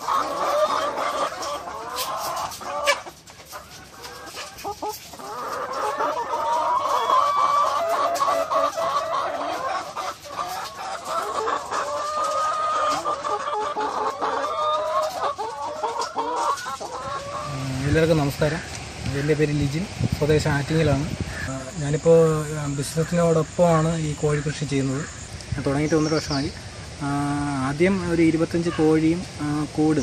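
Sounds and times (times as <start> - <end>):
hens clucking and cackling: 0.0 - 30.0.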